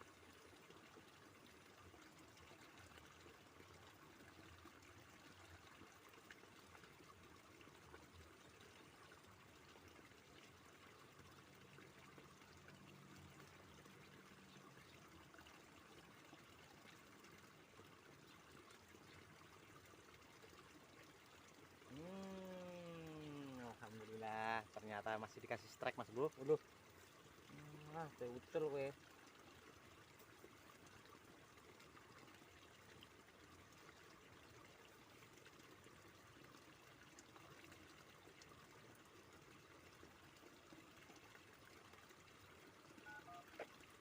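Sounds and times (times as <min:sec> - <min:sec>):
stream water trickling: 0:00.0 - 0:44.0.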